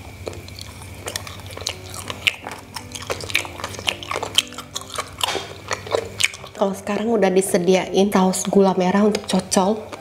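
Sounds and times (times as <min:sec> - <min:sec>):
wet chewing with mouth clicks: 0:00.0 - 0:07.2, 0:08.4 - 0:10.0
faint background music: 0:00.0 - 0:10.0.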